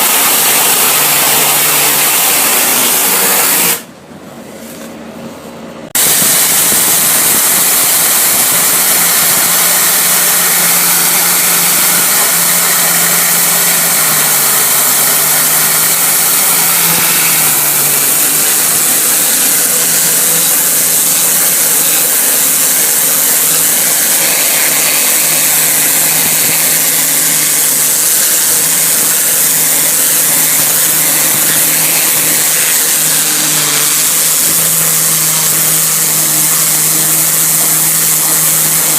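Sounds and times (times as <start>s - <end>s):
loud hissing spray: 0.0s - 3.9s, 6.0s - 38.9s
cleaning machine motor hum: 0.0s - 38.9s.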